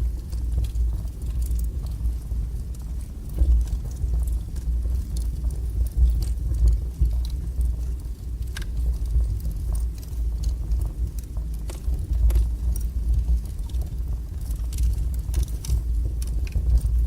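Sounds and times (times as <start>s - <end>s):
fire flames rumbling: 0.0s - 17.0s
wood fire crackles: 0.0s - 17.0s.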